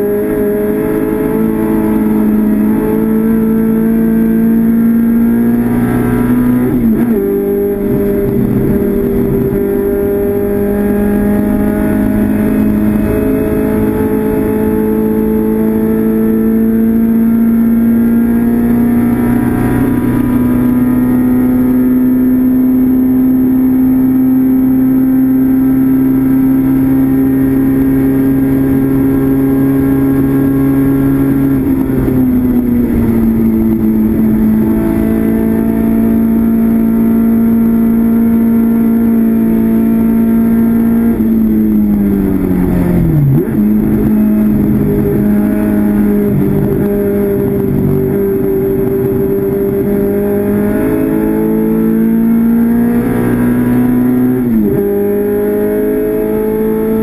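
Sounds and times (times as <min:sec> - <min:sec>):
race car engine revving: 0:00.0 - 0:22.4, 0:25.3 - 0:57.0.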